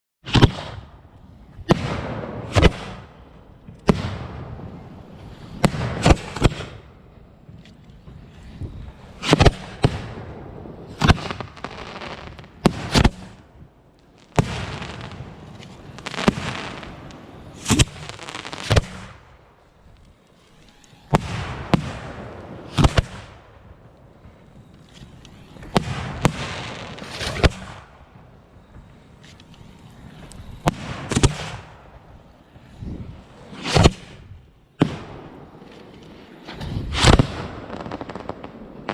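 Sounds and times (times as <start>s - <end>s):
fireworks bangs: 0.2s - 38.9s
fireworks crackling and hissing: 0.2s - 38.9s.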